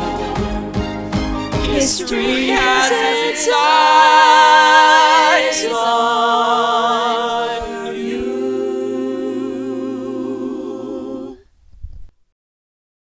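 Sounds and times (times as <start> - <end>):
a cappella choir singing: 0.0 - 0.7, 1.6 - 11.5.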